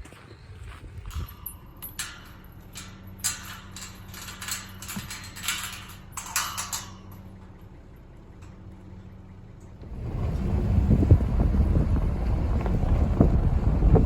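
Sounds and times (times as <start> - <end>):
steady low hum: 1.0 - 14.0.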